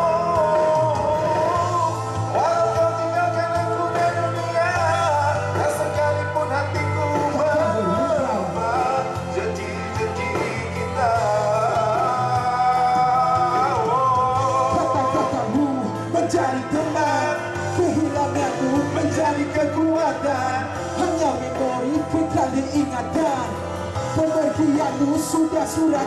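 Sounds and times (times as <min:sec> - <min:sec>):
live band music: 0:00.0 - 0:26.0
person singing: 0:00.0 - 0:26.0.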